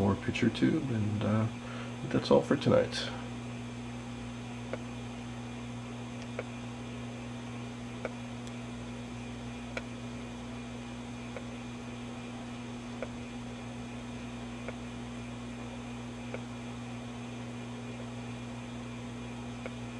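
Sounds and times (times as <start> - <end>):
television electrical hum and hiss: 0.0 - 19.9.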